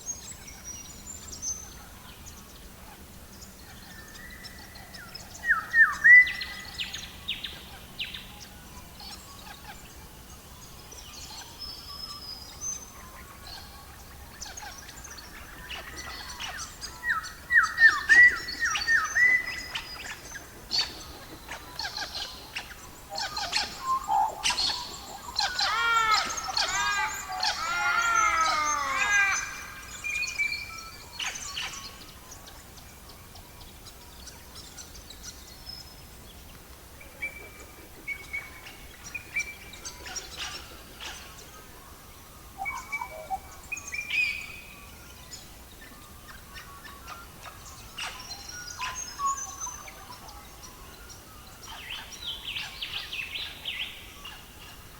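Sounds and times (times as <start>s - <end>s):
faint steady hiss: 0.0s - 54.9s
songbirds chirping: 0.0s - 54.9s.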